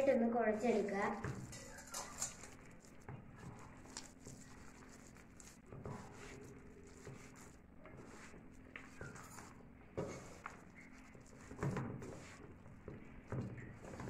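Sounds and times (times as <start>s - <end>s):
hands squishing wet batter: 1.2s - 14.0s.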